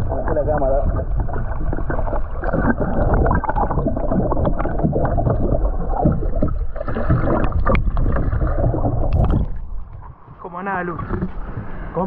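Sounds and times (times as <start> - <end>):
muffled underwater gurgling: 0.0 - 12.0.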